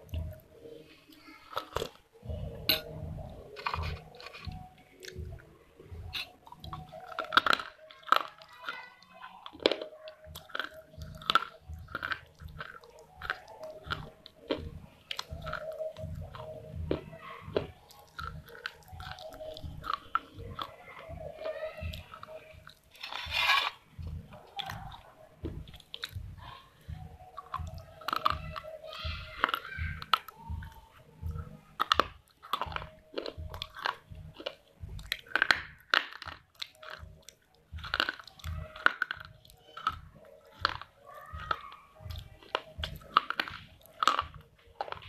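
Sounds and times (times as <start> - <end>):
person chewing crunchy food: 0.0 - 45.0.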